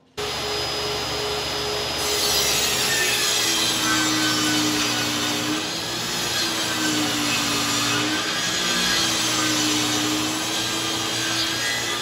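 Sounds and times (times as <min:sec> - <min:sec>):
table saw cutting wood: 0:00.0 - 0:12.0.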